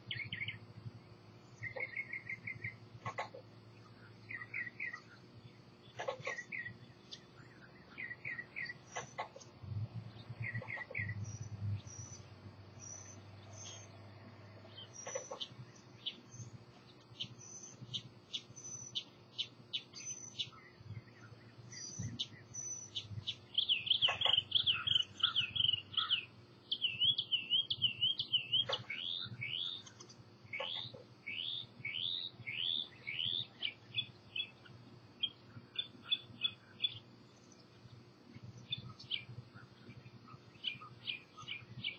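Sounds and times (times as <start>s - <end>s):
loud warbling bird song: 0.0s - 41.9s
songbirds singing and chirping: 0.0s - 41.9s.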